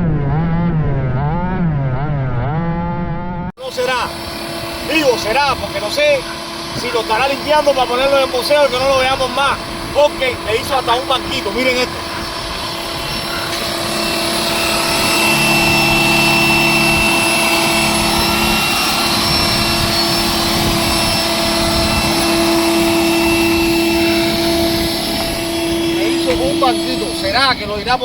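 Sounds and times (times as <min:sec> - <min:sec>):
small motors humming and whining: 0:03.6 - 0:28.0.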